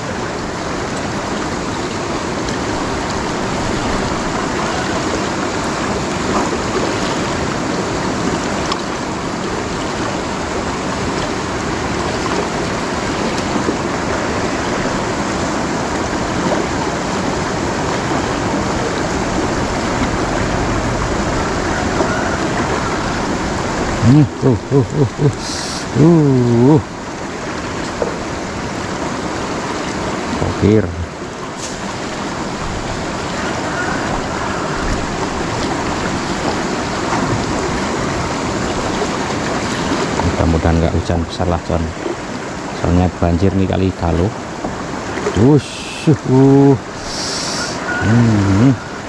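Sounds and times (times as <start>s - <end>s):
water rushing over stones: 0.0s - 49.0s.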